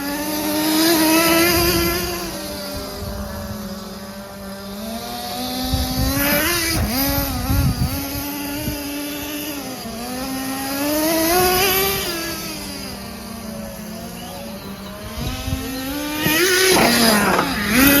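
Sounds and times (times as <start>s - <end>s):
nitro rc engine revving: 0.0s - 18.0s.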